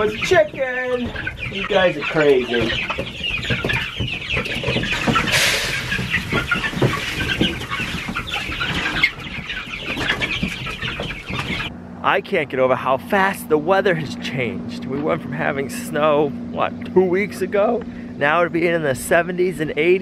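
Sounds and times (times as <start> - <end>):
young chickens cheeping: 0.0 - 11.8, 13.6 - 20.0.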